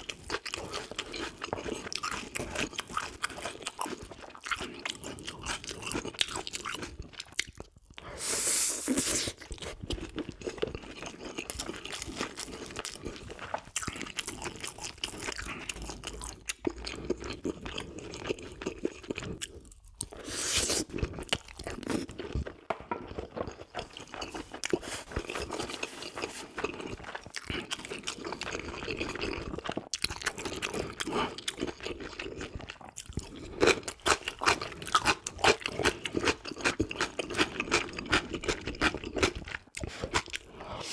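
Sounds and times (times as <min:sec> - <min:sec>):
chewing and crunching food: 0:00.0 - 0:08.2, 0:08.9 - 0:40.9.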